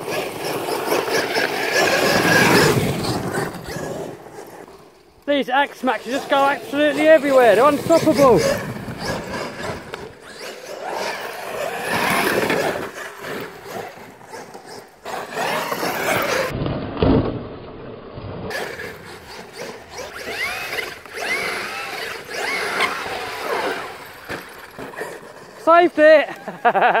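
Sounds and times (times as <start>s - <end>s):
electric motor whining: 0.0s - 4.7s, 5.8s - 16.5s, 18.5s - 26.9s.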